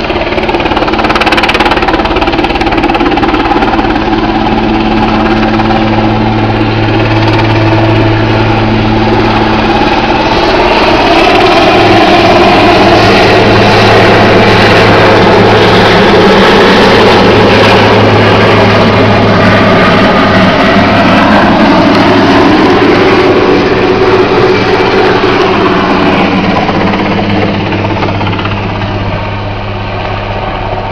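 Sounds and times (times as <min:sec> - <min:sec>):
helicopter flying overhead: 0:00.0 - 0:30.9.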